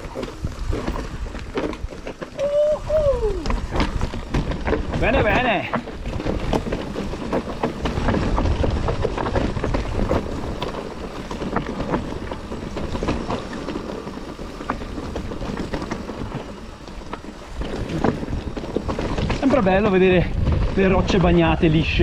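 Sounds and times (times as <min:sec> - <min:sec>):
bike rattling clicks and knocks: 0:00.0 - 0:22.0
bike tyres rumbling over stones: 0:00.0 - 0:22.0.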